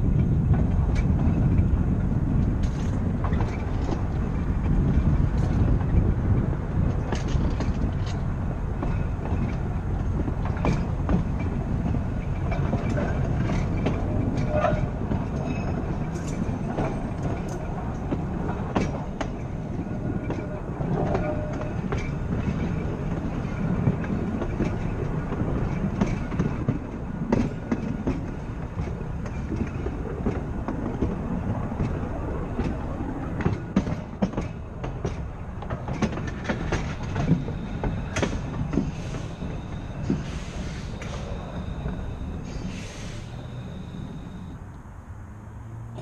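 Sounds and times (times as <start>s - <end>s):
wheels clicking over rail joints: 0.0s - 44.9s
tram wheels rumbling: 0.0s - 46.0s.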